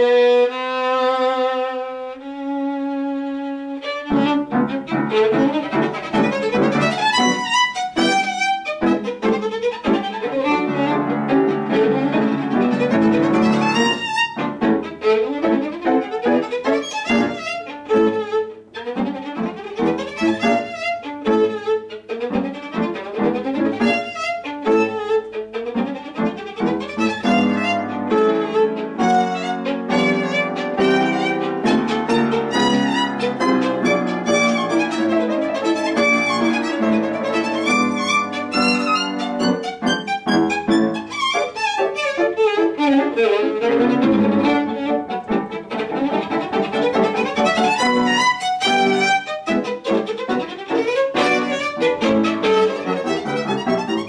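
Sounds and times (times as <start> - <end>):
piano accompaniment: 0.0 - 54.0
solo violin playing fast: 0.0 - 54.0.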